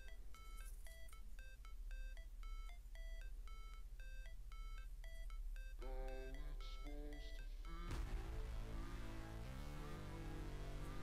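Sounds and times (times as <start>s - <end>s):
low steady hum: 0.0s - 11.0s
plinking electronic melody: 0.0s - 11.0s.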